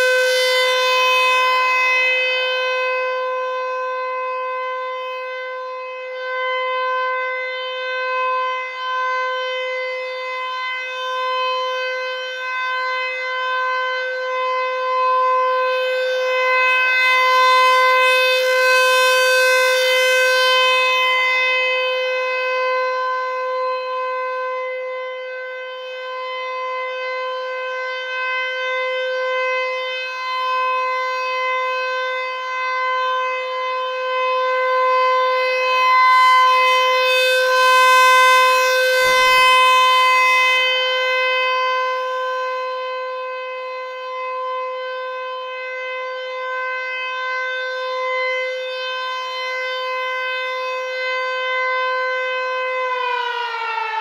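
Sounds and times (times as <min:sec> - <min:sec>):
rotating warning siren steady tone: 0:00.0 - 0:54.0.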